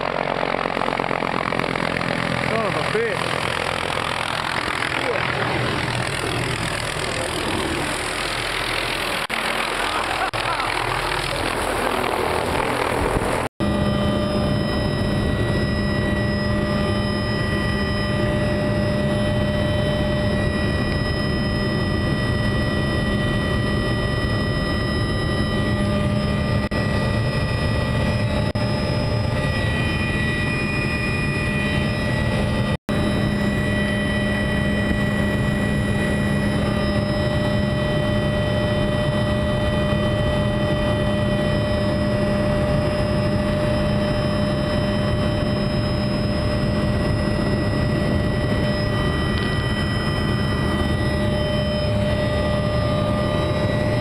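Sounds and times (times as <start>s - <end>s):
aircraft engine drone in cabin: 0.0s - 54.0s
whining tones: 0.0s - 54.0s.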